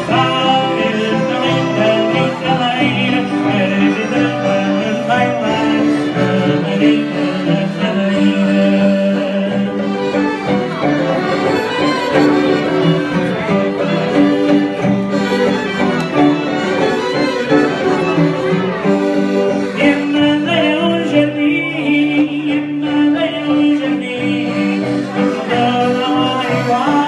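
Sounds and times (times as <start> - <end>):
live band playing folk dance music: 0.0 - 27.0.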